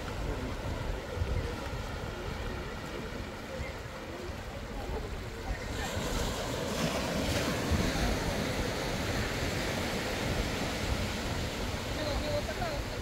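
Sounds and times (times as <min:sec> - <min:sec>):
sea surf on beach: 0:00.0 - 0:13.0
wind rumbling on microphone: 0:00.0 - 0:13.0.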